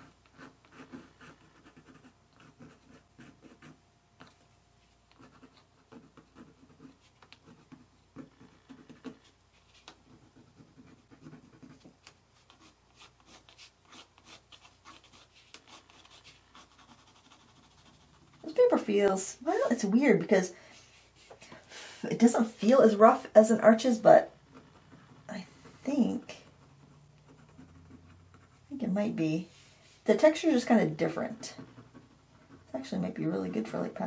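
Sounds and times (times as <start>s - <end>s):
pencil scratching on paper: 0.0s - 3.8s, 5.1s - 19.1s, 22.2s - 34.0s.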